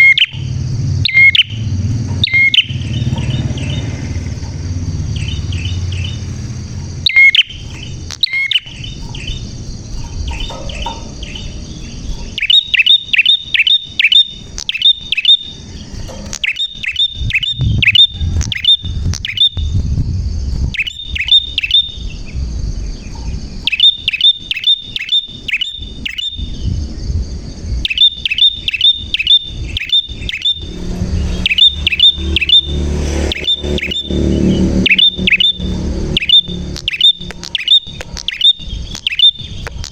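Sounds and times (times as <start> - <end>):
bird singing sharp chirps: 0.0 - 39.9
low rumble: 0.3 - 12.4, 15.6 - 23.7, 25.9 - 27.9, 29.0 - 39.9.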